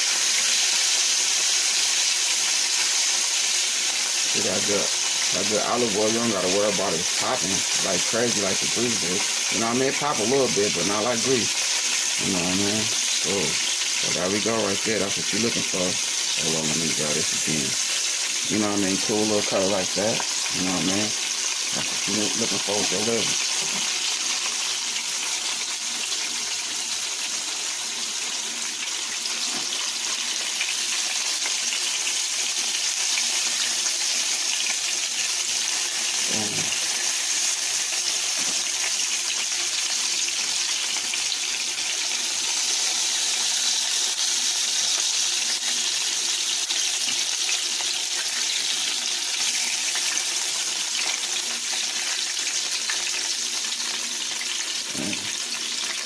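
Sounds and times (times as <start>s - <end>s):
liver frying in oil sizzling: 0.0s - 56.0s.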